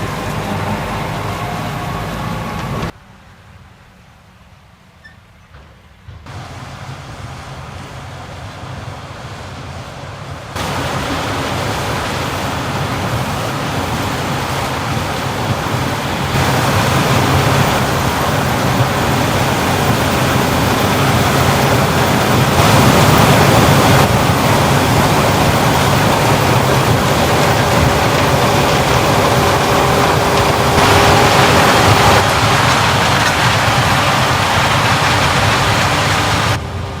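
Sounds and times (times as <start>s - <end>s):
harvesting machinery running: 0.0s - 3.0s, 6.1s - 37.0s.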